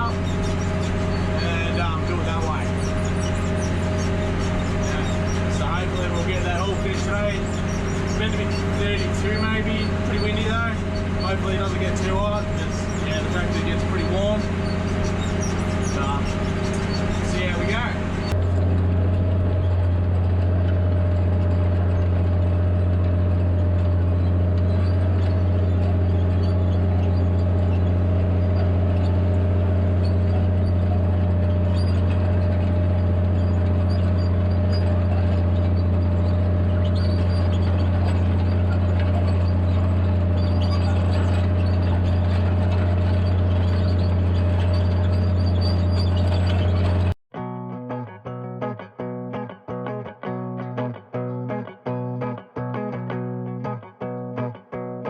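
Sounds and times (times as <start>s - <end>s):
tractor engine droning: 0.0s - 47.2s.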